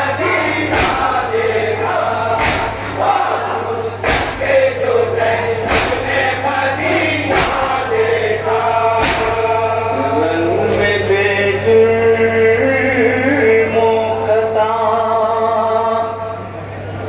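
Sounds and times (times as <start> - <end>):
men's chorus chanting: 0.0 - 16.4.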